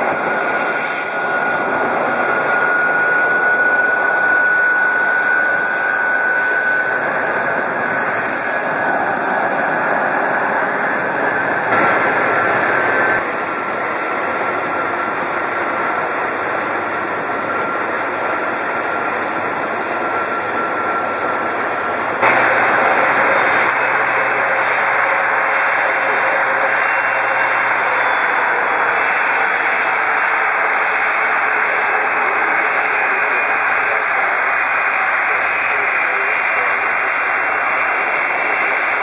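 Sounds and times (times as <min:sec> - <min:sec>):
jet engines whining: 0:00.0 - 0:39.0.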